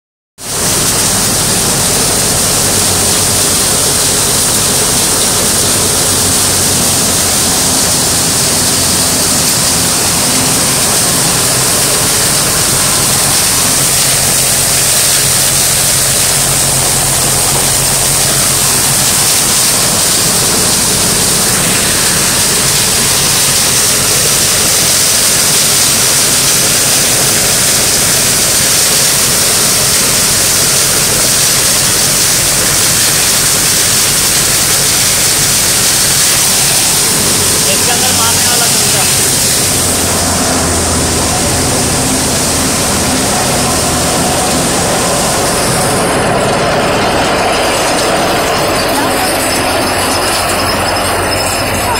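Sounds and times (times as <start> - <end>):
thresher running: 0.4 - 51.9.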